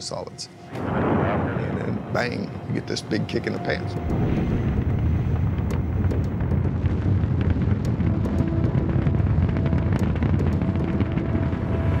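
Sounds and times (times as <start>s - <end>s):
rocket engines rumbling and crackling: 0.8s - 12.0s.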